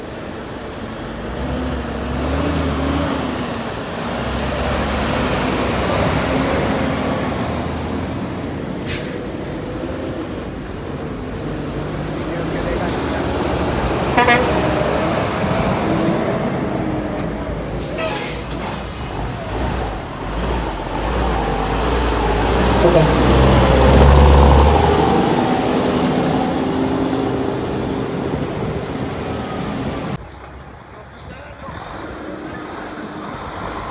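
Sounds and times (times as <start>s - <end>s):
heavy truck engine running: 0.0s - 33.9s
road traffic noise: 0.0s - 33.9s.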